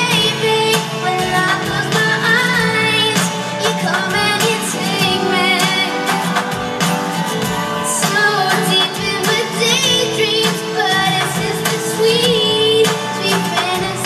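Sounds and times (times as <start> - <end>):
young person singing: 0.0 - 6.8, 7.6 - 14.0
instrumental accompaniment: 0.0 - 14.0.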